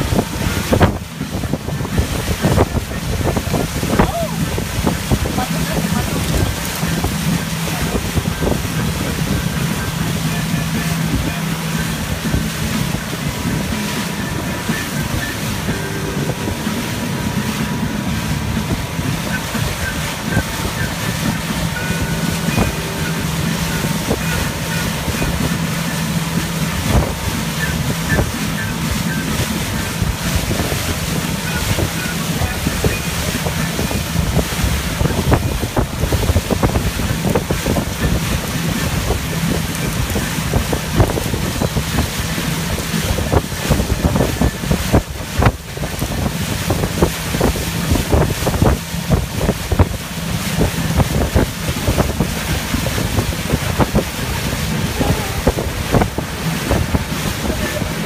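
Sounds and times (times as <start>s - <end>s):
churning wake rushing: 0.0s - 58.0s
motorboat engine hum: 0.0s - 58.0s
wind buffeting microphone: 0.0s - 58.0s.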